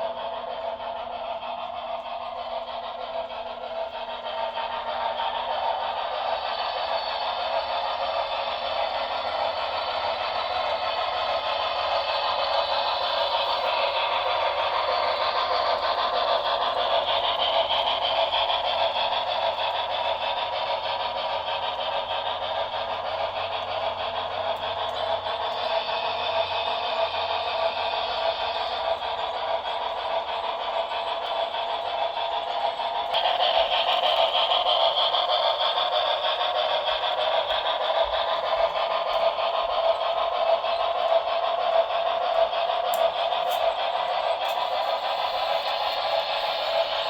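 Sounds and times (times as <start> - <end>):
model train rolling on track: 0.0 - 47.0.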